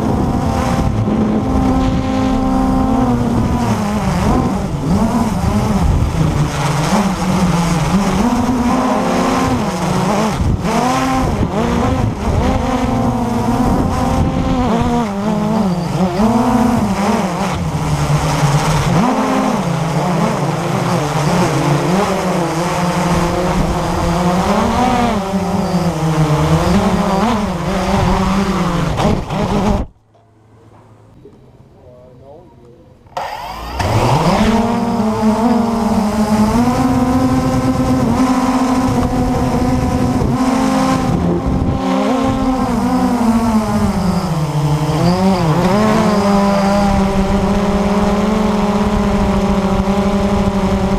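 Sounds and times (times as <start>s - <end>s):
quadcopter motors buzzing: 0.0s - 29.9s, 33.0s - 50.9s.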